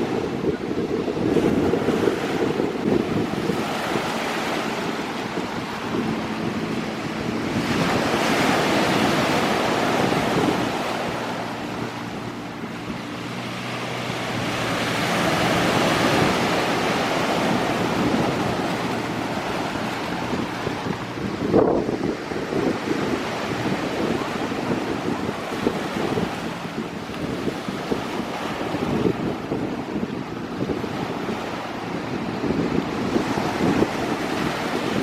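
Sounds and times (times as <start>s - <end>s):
waves washing onto beach: 0.0s - 35.0s
wind rumbling on microphone: 0.0s - 35.0s.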